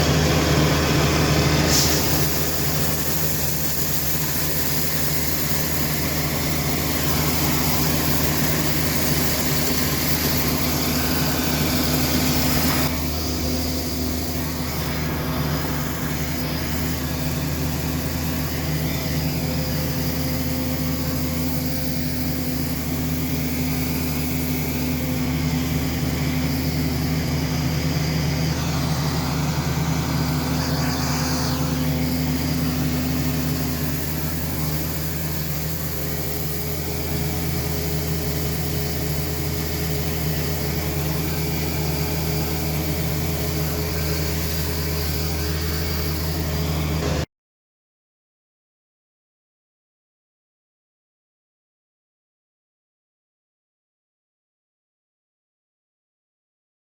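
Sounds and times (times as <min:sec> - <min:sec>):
combine harvester droning: 0:00.0 - 0:47.3.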